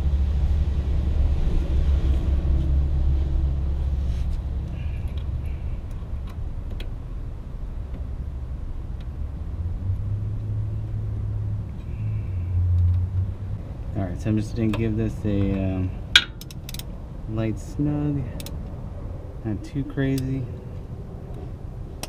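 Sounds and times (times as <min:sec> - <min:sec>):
motor vehicle engine rumbling: 0:00.0 - 0:22.0.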